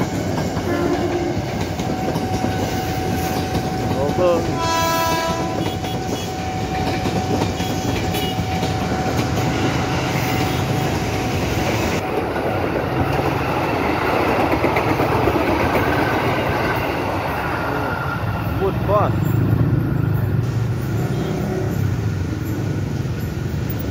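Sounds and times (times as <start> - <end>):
clickety-clack over rail joints: 0.0 - 19.8
train wheels rumbling on rails: 0.0 - 23.9.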